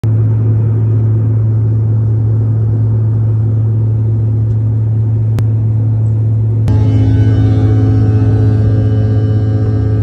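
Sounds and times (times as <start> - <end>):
airliner cabin drone: 0.0 - 10.0.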